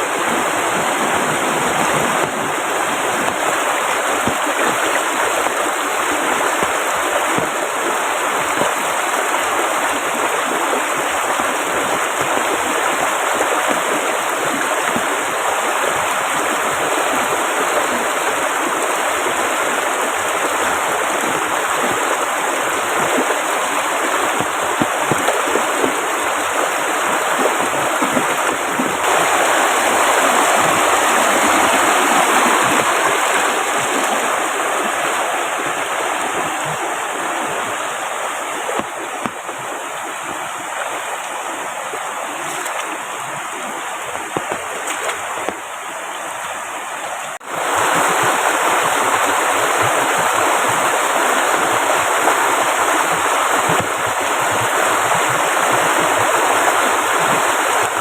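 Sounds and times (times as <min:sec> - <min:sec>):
heavy rain falling: 0:00.0 - 0:58.0
river running: 0:00.0 - 0:58.0.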